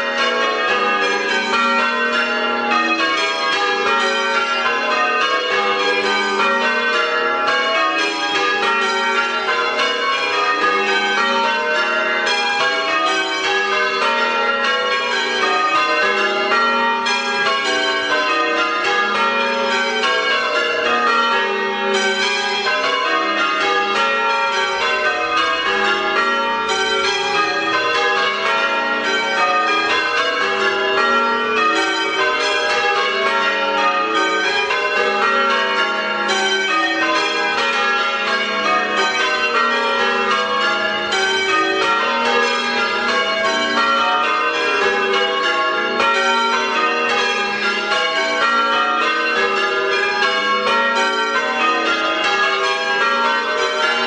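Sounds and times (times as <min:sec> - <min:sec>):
church bells change ringing: 0:00.0 - 0:54.0.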